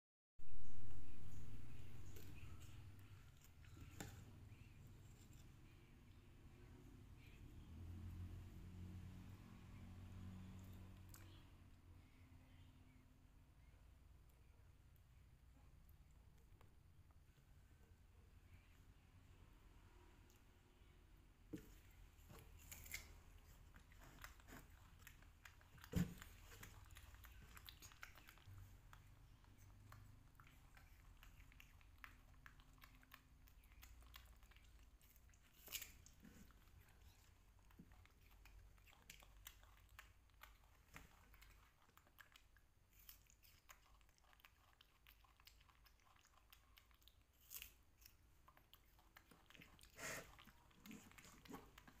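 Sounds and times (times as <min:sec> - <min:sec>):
chewing soft fruit: 0:00.5 - 0:12.3, 0:19.7 - 0:52.0.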